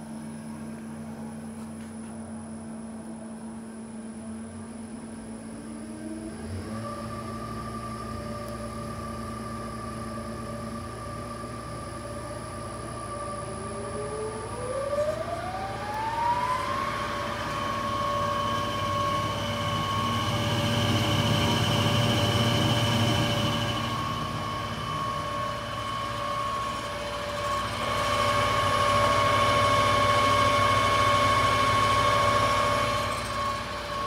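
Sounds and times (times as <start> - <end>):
slicer motor whine and hum: 0.2 - 34.0.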